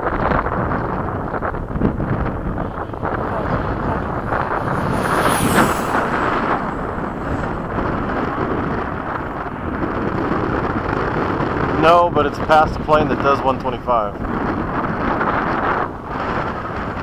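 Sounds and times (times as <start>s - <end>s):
wind buffeting microphone: 0.0s - 17.0s
model jet fan whine passing: 1.1s - 17.0s.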